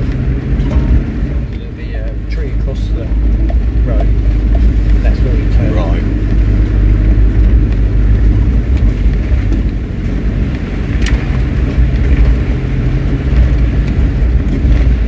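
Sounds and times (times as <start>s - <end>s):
engine rumble inside vehicle cab: 0.0s - 15.0s.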